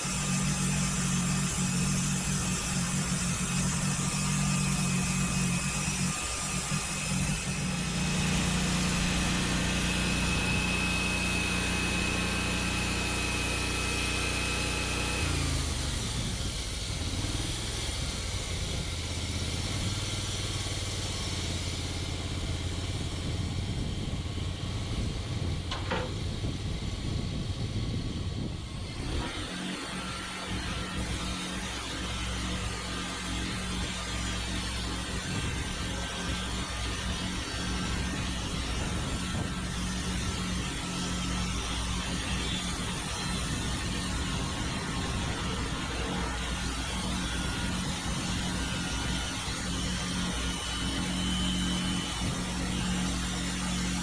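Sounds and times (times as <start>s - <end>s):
thin high whine: 0.0s - 18.8s, 20.4s - 54.0s
small gasoline engine running: 0.0s - 54.0s.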